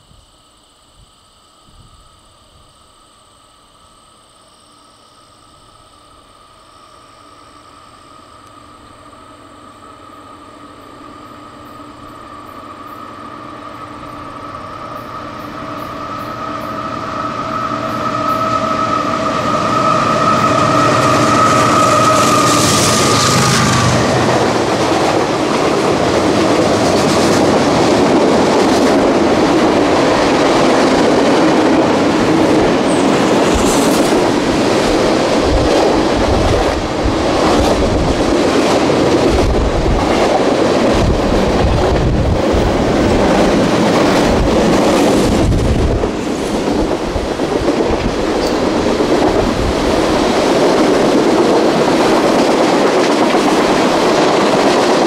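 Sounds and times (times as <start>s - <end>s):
freight train rumbling past: 6.9s - 55.0s.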